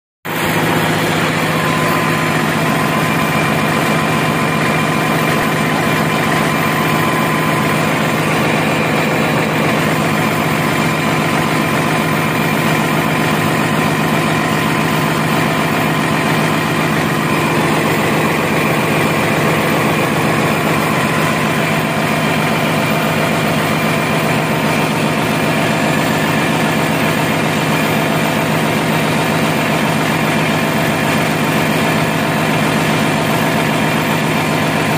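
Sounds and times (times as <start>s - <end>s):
diesel generator engine drone: 0.3s - 34.9s.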